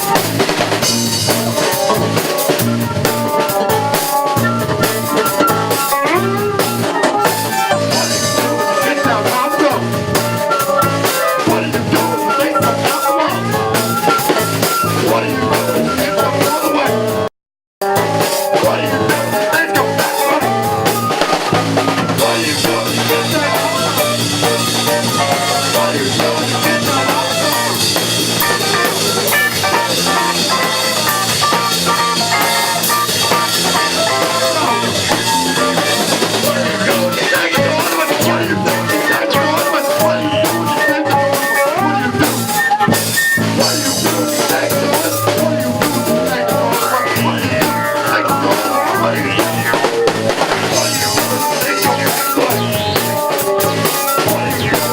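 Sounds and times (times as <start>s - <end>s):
electric guitar: 0.0s - 54.9s
live band playing: 0.0s - 54.9s
steady drumming: 0.0s - 54.9s.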